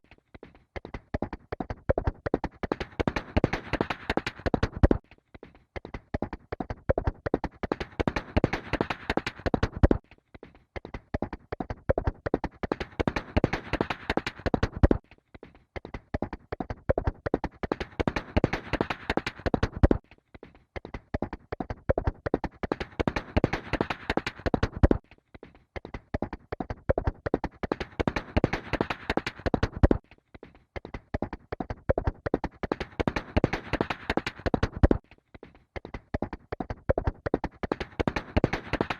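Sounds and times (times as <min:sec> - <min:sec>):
horse hooves galloping: 0:00.0 - 0:05.0, 0:05.8 - 0:10.0, 0:10.8 - 0:15.0, 0:15.8 - 0:20.0, 0:20.8 - 0:25.0, 0:25.8 - 0:30.0, 0:30.8 - 0:35.0, 0:35.8 - 0:38.9.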